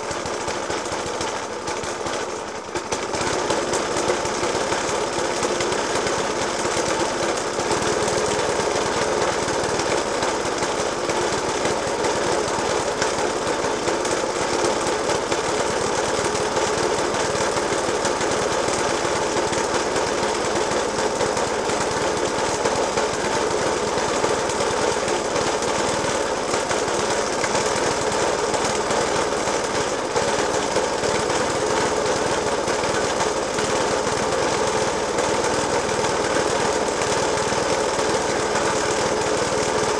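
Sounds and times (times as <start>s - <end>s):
lawnmower engine idling roughly: 0.0s - 39.9s.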